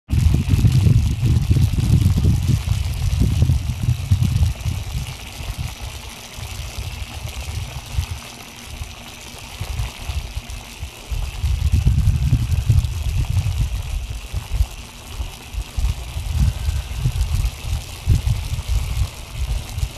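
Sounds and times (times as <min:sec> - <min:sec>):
wind buffeting microphone: 0:00.1 - 0:09.0, 0:09.6 - 0:19.9
steady high hiss: 0:02.2 - 0:19.9.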